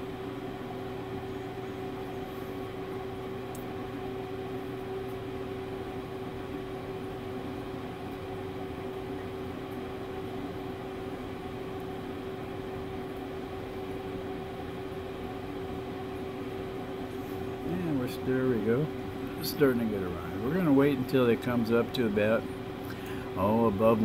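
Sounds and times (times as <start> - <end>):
fan whirring hum: 0.0 - 24.0.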